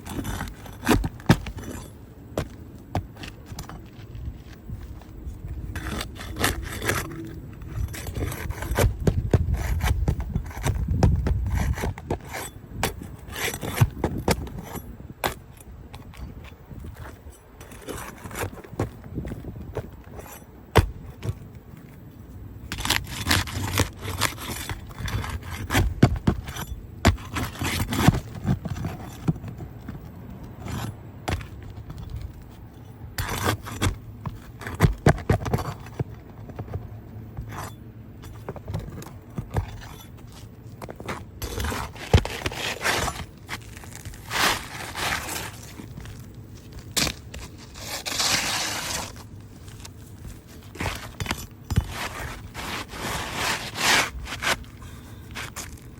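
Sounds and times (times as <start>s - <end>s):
hard objects scraping and clinking: 5.2s - 36.8s, 37.4s - 55.9s.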